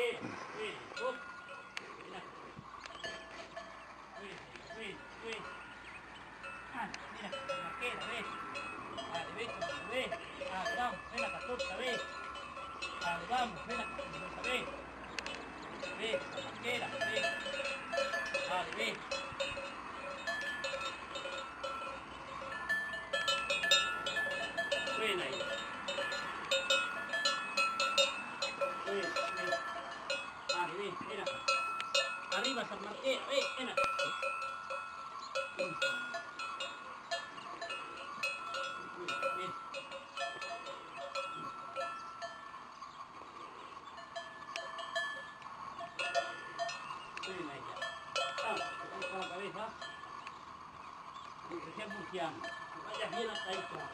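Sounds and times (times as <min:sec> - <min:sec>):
cowbells clanking: 0:00.0 - 0:53.9.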